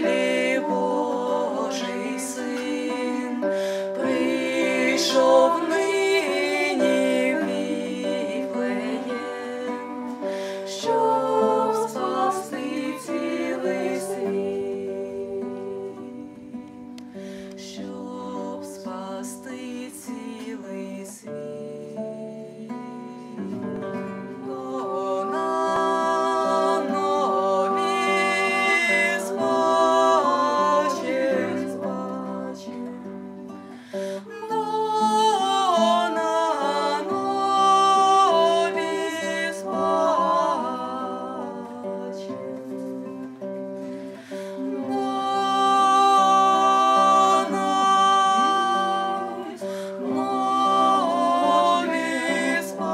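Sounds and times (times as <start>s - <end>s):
acoustic guitar chords: 0.0s - 52.9s
person singing wordless melody: 0.0s - 52.9s.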